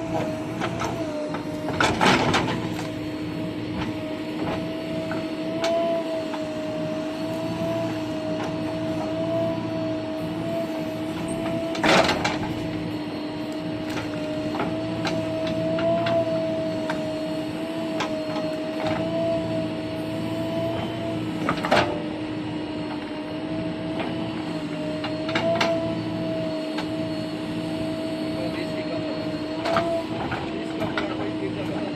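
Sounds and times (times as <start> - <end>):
bulldozer engine running: 0.0 - 31.9.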